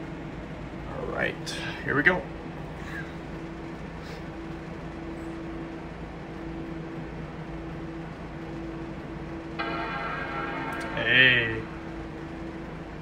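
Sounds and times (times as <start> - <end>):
low hum with held tone: 0.0 - 13.0.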